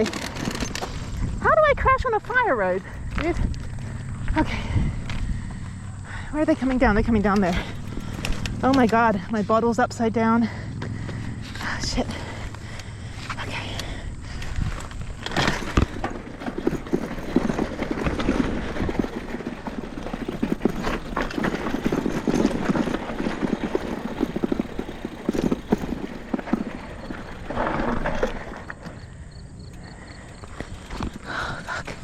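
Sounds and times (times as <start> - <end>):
mountain bike rattling over rocks: 0.0 - 32.0.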